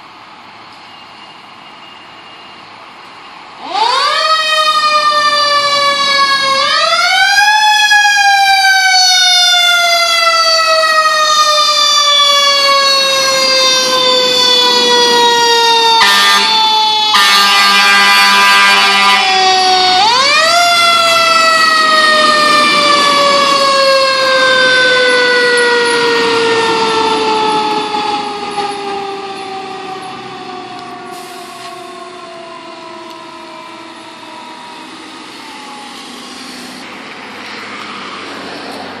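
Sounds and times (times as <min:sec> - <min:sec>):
truck engines: 0:00.0 - 0:39.0.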